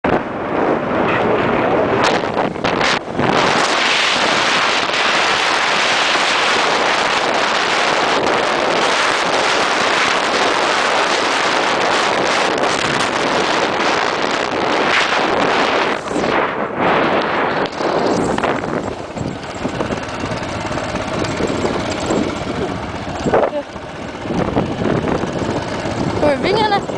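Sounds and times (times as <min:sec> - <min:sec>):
wind rush on microphone: 0:00.0 - 0:26.9
motorcycle engine running: 0:01.8 - 0:16.3, 0:17.5 - 0:26.9.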